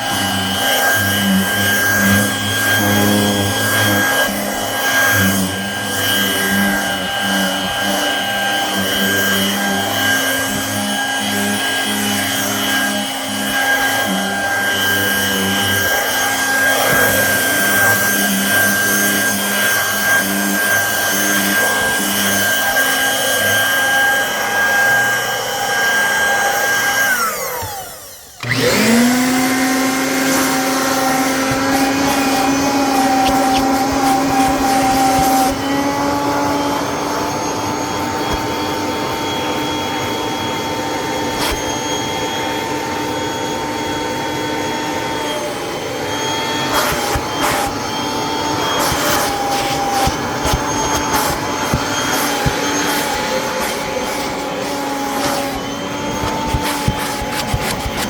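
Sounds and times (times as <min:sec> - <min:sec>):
vacuum cleaner motor whining: 0:00.0 - 0:58.0.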